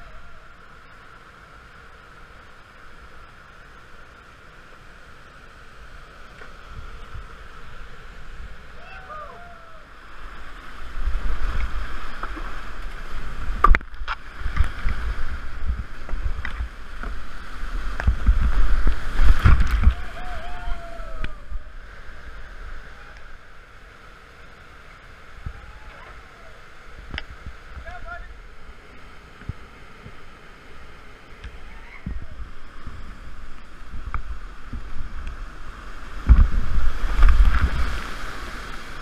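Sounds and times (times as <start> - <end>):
whitewater rushing: 0.0 - 39.0.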